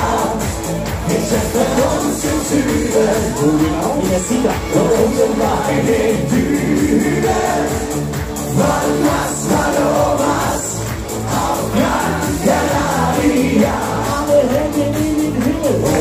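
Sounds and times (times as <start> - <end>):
crowd noise: 0.0 - 16.0
loud amplified music with beat: 0.0 - 16.0
man singing into a microphone: 0.0 - 16.0.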